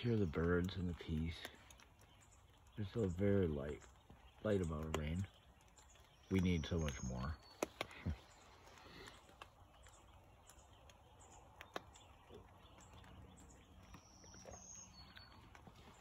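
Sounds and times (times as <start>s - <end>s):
faint bird chirps: 0.0s - 16.0s
rain dripping ticks: 0.0s - 16.0s.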